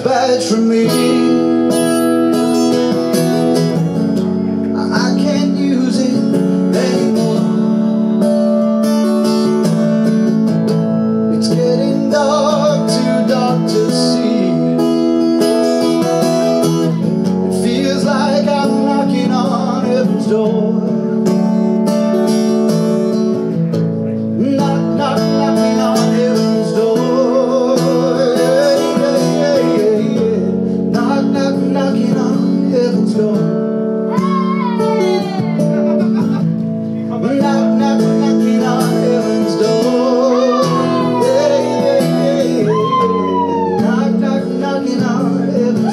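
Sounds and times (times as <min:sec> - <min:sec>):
man singing: 0:00.0 - 0:10.3, 0:11.1 - 0:22.4, 0:24.0 - 0:45.9
acoustic guitar strumming: 0:00.0 - 0:45.9.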